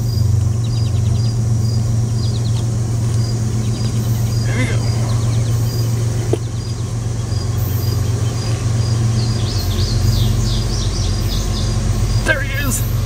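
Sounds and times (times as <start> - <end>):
birds chirping: 0.0 - 13.0
engine idling hum: 0.0 - 13.0.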